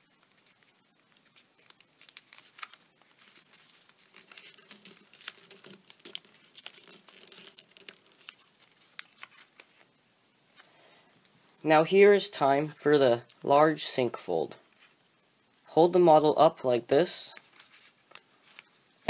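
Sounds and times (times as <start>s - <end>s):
paper crinkling: 0.0s - 13.6s, 17.3s - 19.0s.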